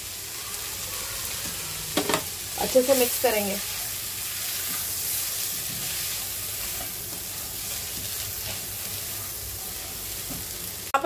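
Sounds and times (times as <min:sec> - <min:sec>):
food sizzling in oil: 0:00.0 - 0:11.0
spatula scraping pan: 0:01.4 - 0:10.6.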